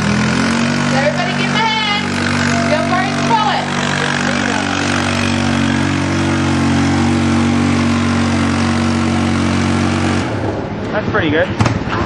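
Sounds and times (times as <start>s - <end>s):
atv engine running: 0.0s - 10.9s.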